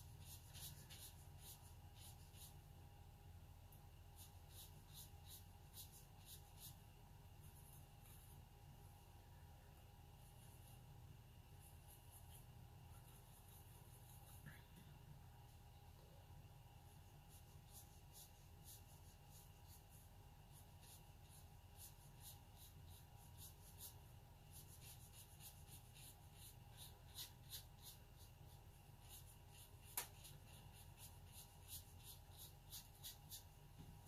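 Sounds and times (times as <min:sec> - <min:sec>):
brush strokes on paper: 0:00.0 - 0:02.7, 0:04.0 - 0:08.6, 0:11.5 - 0:14.6, 0:16.8 - 0:34.0
steady low hum: 0:00.0 - 0:34.0.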